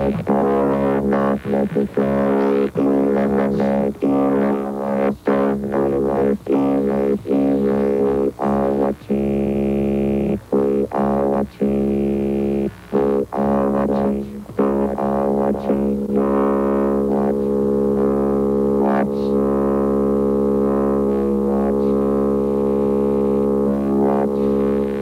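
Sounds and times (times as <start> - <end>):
synthesizer drone: 0.0 - 25.0.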